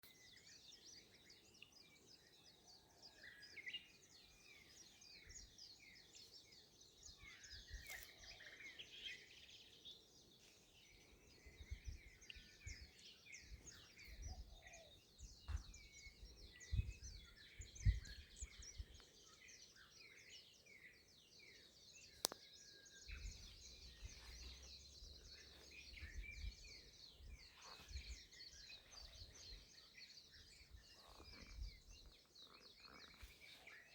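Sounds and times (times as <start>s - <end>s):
birds chirping and calling: 2.8s - 33.9s.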